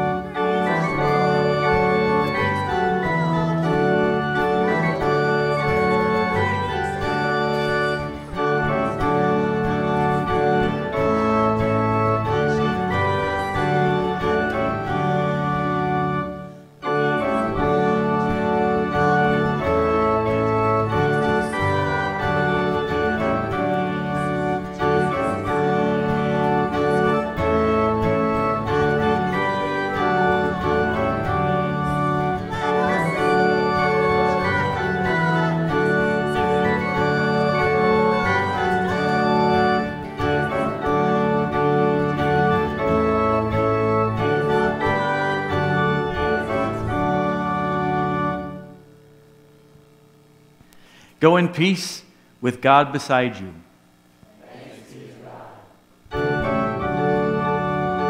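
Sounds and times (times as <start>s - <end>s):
organ playing hymn chords: 0.0s - 54.2s, 55.6s - 58.0s.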